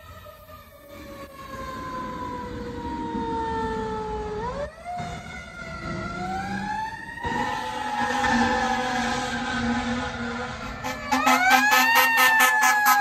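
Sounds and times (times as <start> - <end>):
fire engine siren wailing: 0.0 - 13.0.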